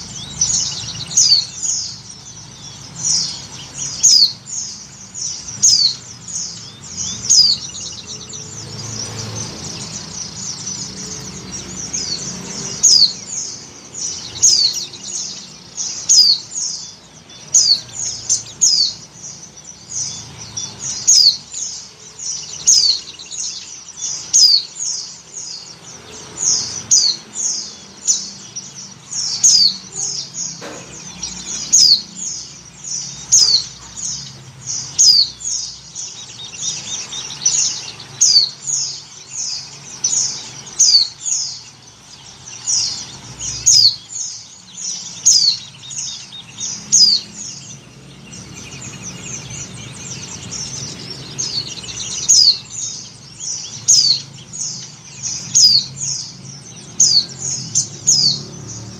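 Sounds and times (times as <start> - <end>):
bird giving high chirps: 0.0 - 58.9.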